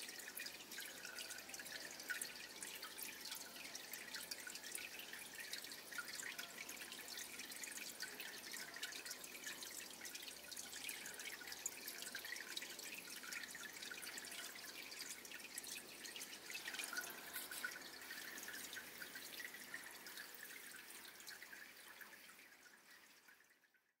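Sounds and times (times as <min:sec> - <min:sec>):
water lapping and dripping: 0:00.0 - 0:23.8.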